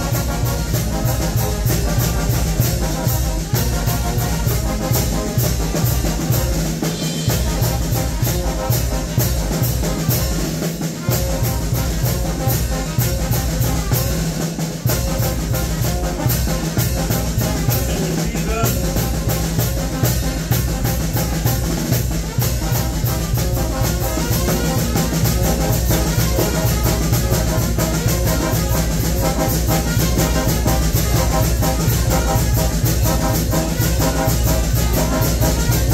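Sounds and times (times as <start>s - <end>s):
brass horns: 0.0s - 35.9s
steady drum beat: 0.0s - 35.9s
tuba: 0.0s - 35.9s.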